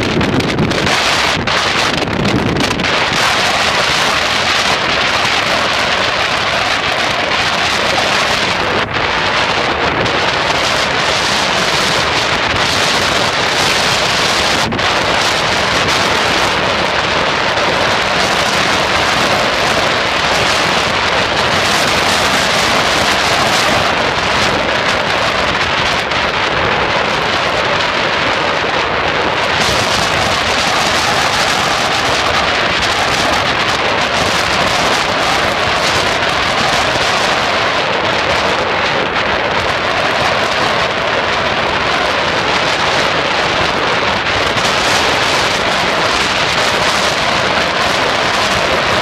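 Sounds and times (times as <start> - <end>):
wind blowing across microphone: 0.0 - 49.0.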